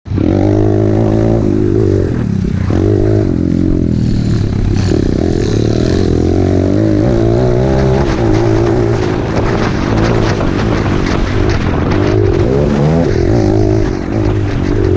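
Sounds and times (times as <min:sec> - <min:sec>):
dirt bike engine revving: 0:00.1 - 0:14.9.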